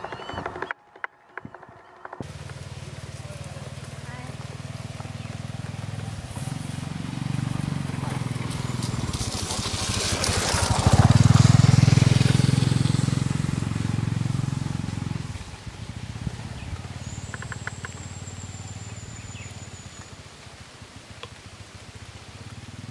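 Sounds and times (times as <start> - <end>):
engine running: 0.0 - 22.9.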